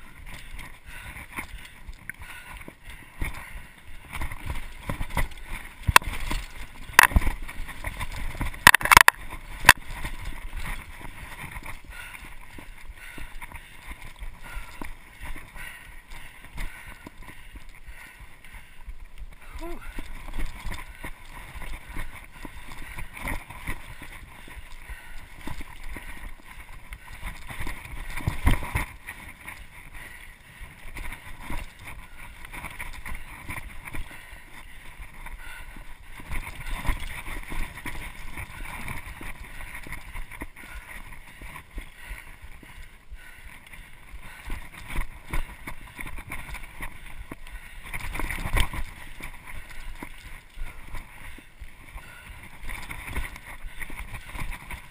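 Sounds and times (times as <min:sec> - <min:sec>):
bike rattling and knocking: 0:00.1 - 0:18.8, 0:19.6 - 0:54.9.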